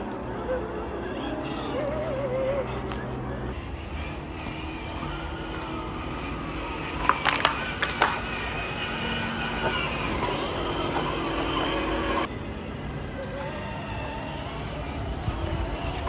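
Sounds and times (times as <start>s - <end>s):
toy truck motor whining: 0.0s - 16.0s.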